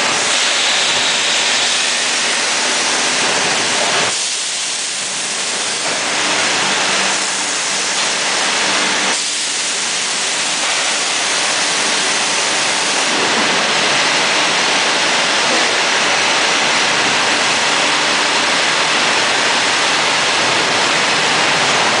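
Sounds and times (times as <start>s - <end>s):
loud rushing factory noise: 0.0s - 22.0s.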